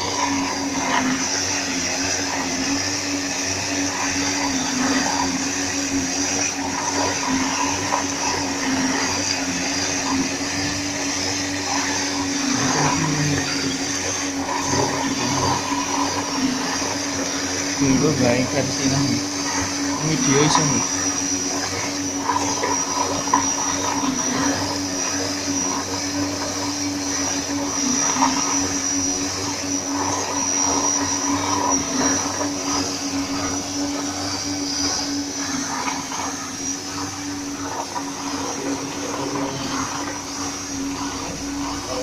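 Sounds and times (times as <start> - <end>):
electric motors humming and whining: 0.0 - 42.0.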